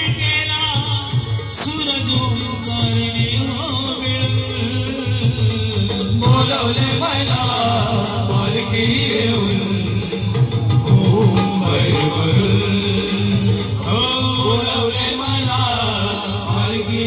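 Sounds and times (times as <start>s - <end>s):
men singing into microphones: 0.0s - 17.0s.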